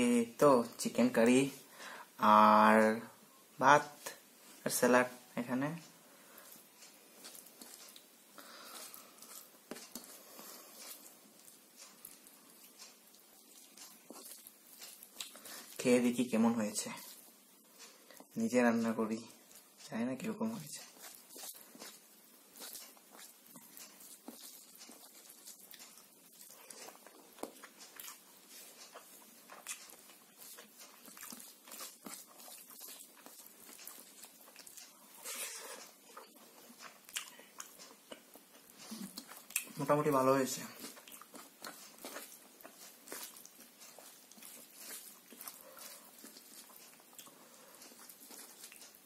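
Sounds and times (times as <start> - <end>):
person chewing food: 5.7 - 18.4, 19.3 - 49.0
fingers squishing rice: 6.4 - 17.3, 20.4 - 49.0.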